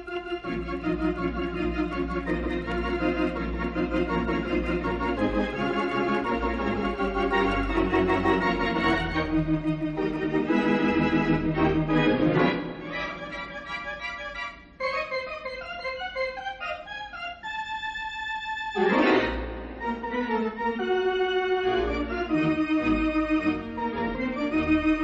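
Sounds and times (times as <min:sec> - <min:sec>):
organ chords: 0:00.0 - 0:25.0.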